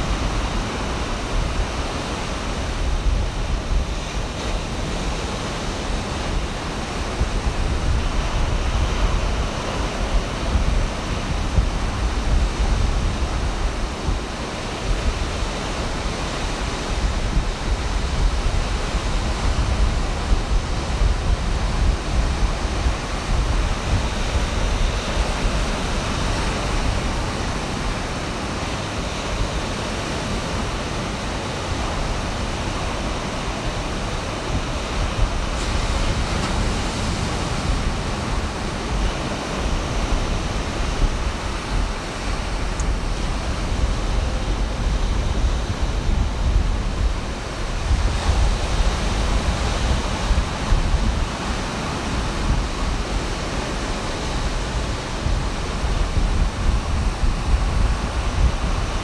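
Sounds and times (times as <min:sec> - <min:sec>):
ocean surf breaking: 0:00.0 - 0:59.0
wind rumble on microphone: 0:00.0 - 0:59.0.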